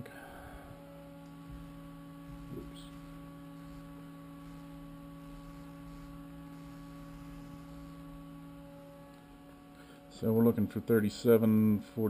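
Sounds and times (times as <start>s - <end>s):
milling machine electrical hum: 0.0s - 12.0s.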